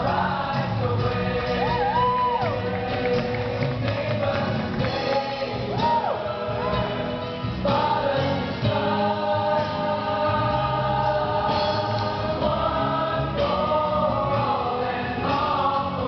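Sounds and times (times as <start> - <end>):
backing music: 0.0 - 16.0
chorus singing: 0.0 - 16.0.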